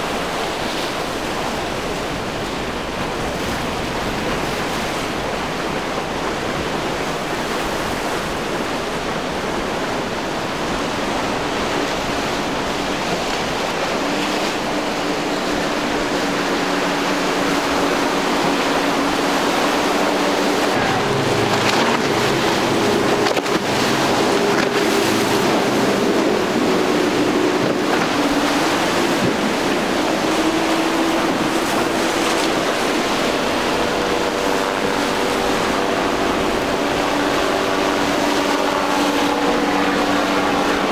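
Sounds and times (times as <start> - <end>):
outboard motors droning: 0.0 - 40.9
waves washing against shore: 0.0 - 40.9
wind on microphone: 0.0 - 40.9.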